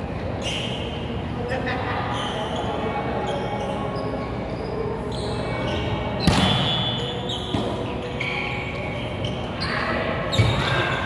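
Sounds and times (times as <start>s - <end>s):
indoor gym background noise: 0.0s - 11.0s.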